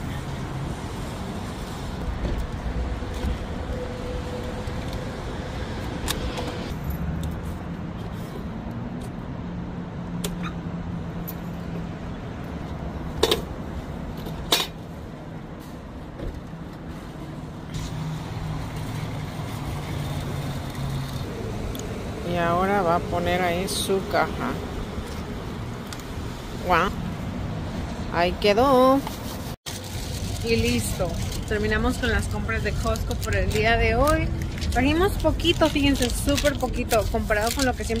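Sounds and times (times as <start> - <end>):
parking lot traffic noise: 0.0 - 38.0.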